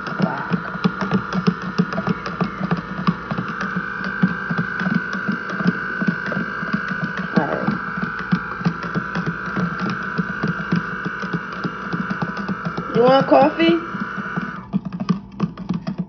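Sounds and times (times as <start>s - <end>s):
high-pitched hum: 0.0s - 16.0s
spoon stirring in paper cup: 0.0s - 16.0s.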